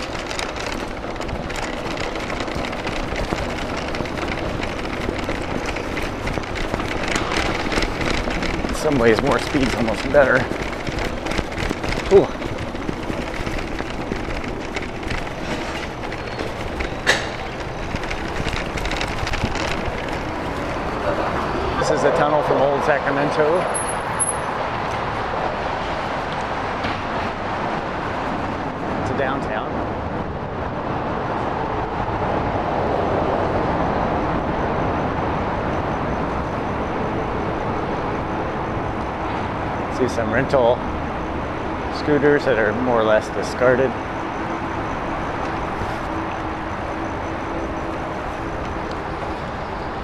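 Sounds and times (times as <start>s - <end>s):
bike rattling over brick street: 0.0s - 30.5s, 33.0s - 50.0s.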